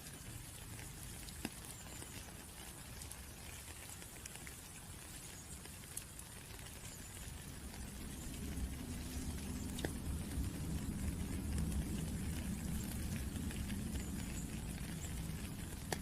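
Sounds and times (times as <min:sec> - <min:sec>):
rain patter: 0:00.0 - 0:16.0
drops ticking on hard surface: 0:00.1 - 0:16.0.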